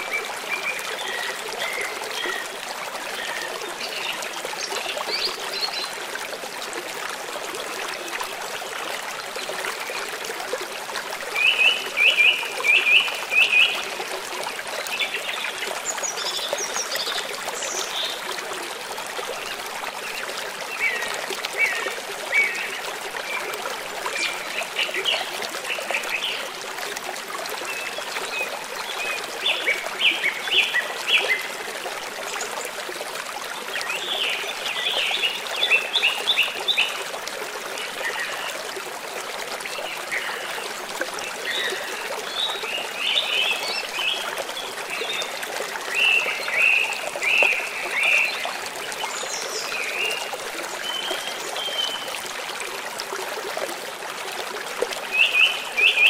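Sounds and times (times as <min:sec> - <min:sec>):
flowing stream: 0:00.0 - 0:56.0.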